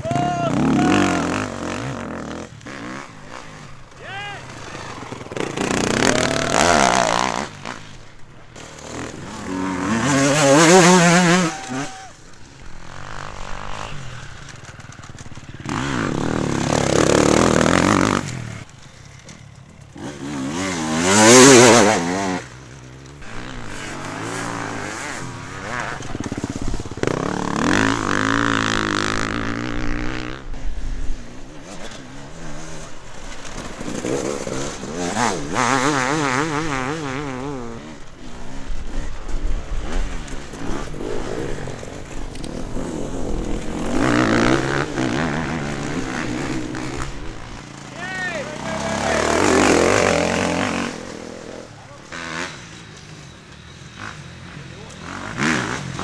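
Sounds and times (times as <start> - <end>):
motorcycles revving past: 0.0 - 56.0.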